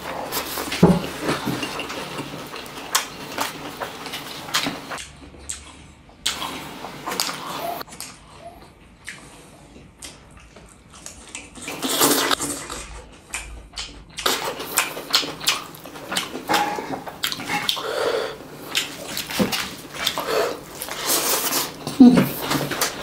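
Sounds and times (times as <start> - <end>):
chewing: 0.0 - 23.0.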